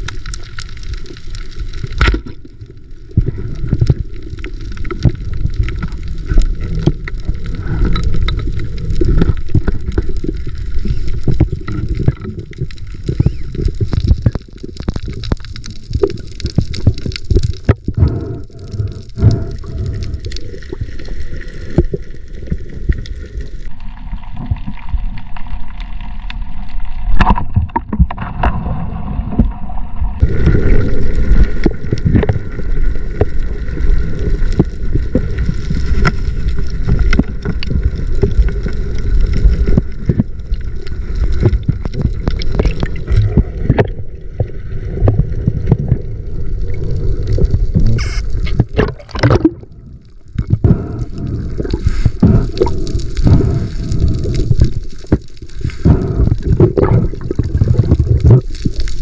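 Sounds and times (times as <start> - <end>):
small crackles: 0.0 - 59.0
water rumbling and gurgling: 0.0 - 59.0.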